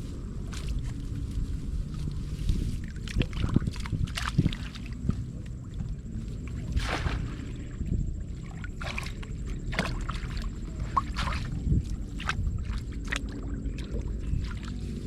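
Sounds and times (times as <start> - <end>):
steady low rumble: 0.0 - 15.0
water splashing and sloshing: 0.0 - 15.0.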